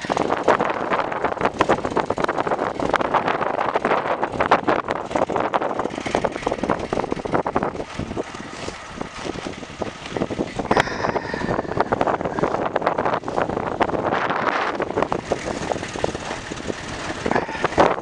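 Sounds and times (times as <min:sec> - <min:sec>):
tractor engine clattering rattle: 0:00.0 - 0:18.0.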